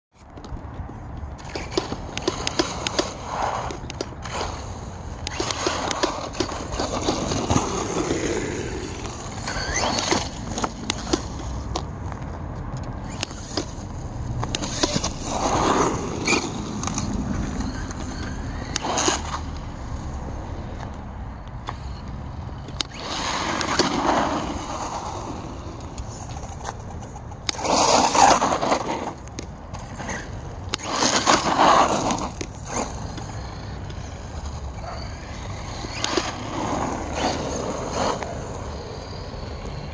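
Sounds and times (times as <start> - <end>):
rc truck tyres rumbling on asphalt: 0.2 - 39.9.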